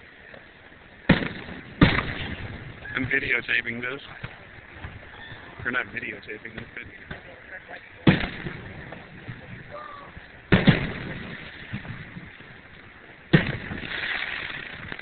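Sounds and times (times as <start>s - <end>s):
firework shells booming: 1.0s - 15.0s.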